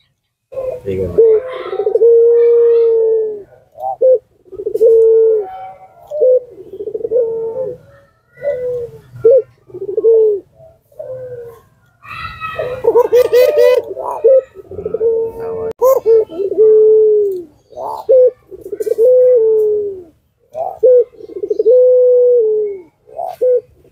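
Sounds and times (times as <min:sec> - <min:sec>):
dove cooing: 0:00.5 - 0:23.9.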